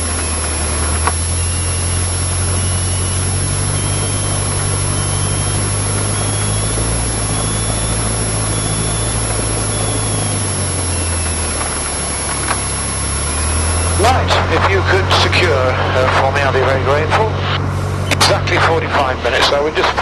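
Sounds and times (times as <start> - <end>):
small plane engine droning: 0.0 - 20.0.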